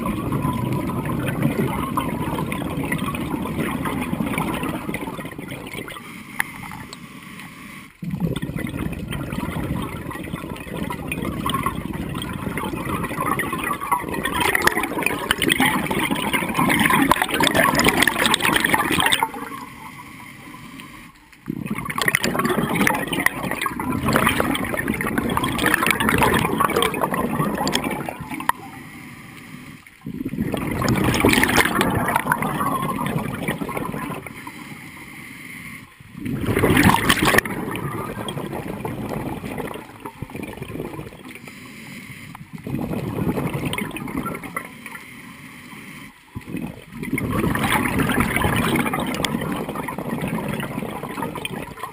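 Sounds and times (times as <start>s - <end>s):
regulator exhaust bubbling underwater: 0.0s - 7.0s, 7.8s - 28.8s, 29.8s - 34.6s, 35.9s - 41.6s, 42.3s - 45.0s, 46.2s - 51.9s.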